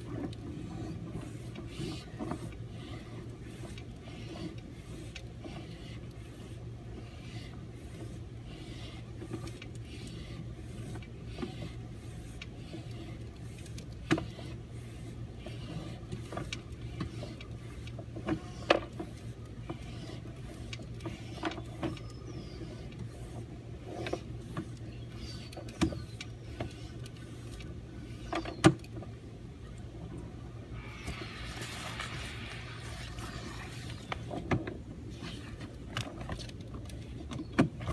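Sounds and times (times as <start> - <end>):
steady low hum: 0.0 - 37.8.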